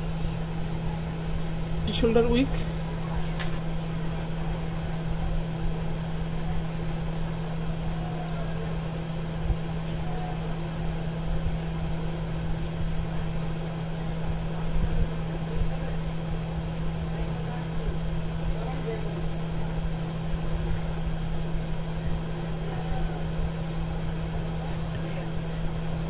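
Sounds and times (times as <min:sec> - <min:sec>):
electrical hum of equipment: 0:00.0 - 0:26.0.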